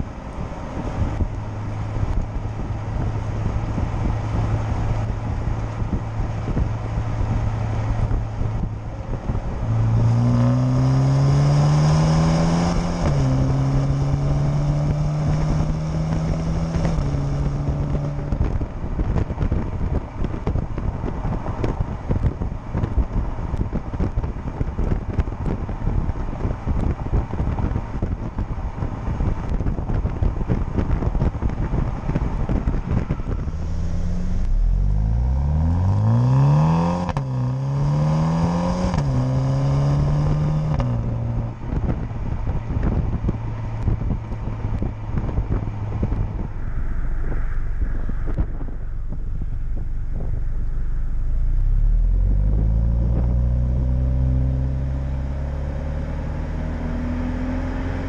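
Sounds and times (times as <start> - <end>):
car exhaust revving: 0.0 - 58.0
wind and road rush: 0.0 - 58.0.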